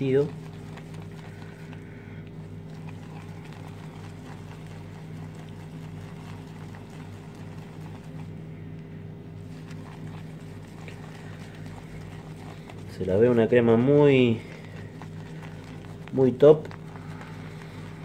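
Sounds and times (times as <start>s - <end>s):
shaving brush swishing lather: 0.0s - 8.7s, 9.3s - 18.0s
throbbing mechanical hum: 0.0s - 18.0s.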